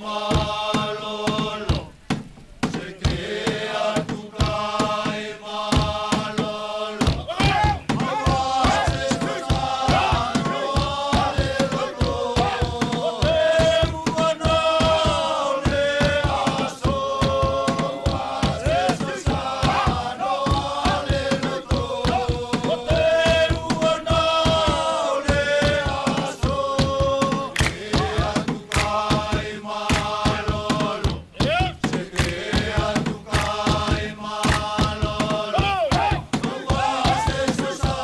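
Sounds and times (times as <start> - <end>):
group chanting: 0.0 - 2.0, 2.6 - 38.0
fast percussion beats: 0.1 - 38.0.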